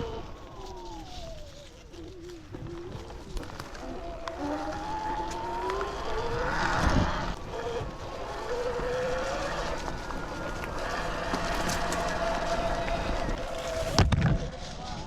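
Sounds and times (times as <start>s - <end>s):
electric motor whining: 0.0s - 14.0s
tyre and trail noise: 0.0s - 15.0s.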